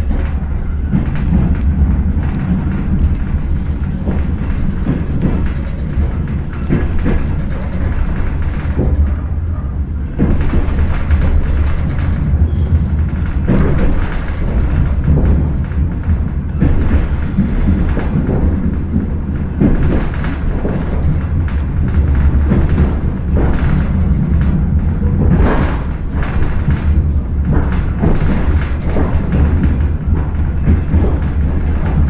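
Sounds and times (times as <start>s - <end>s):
train car knocks and rattles: 0.0s - 32.0s
train engine low rumble: 0.0s - 32.0s.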